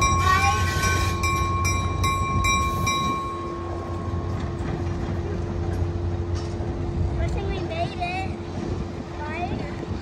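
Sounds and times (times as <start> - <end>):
locomotive engine rumble: 0.0 - 10.0.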